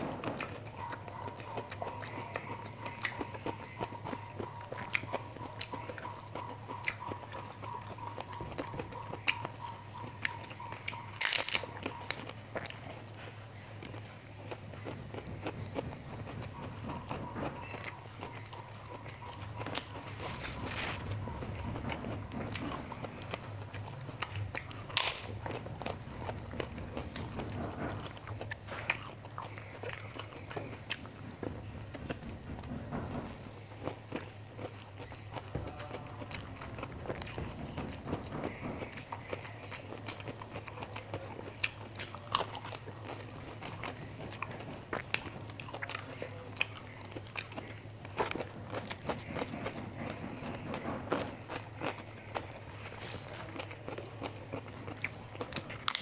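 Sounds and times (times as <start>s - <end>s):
chewing food: 0.0s - 56.0s
crackers crunching: 0.0s - 56.0s.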